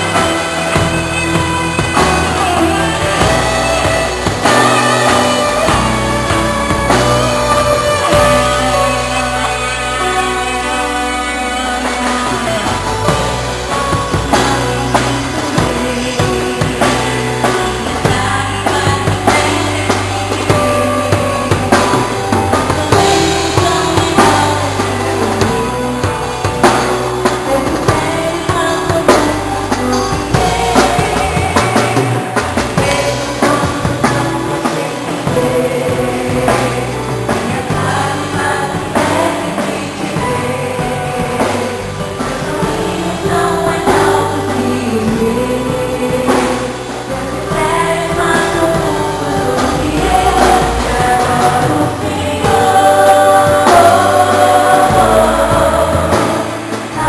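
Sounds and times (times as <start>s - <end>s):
drum kit beat: 0.0s - 57.0s
group singing: 0.0s - 57.0s
sustained bass notes: 0.0s - 57.0s
worship band playing: 0.0s - 57.0s.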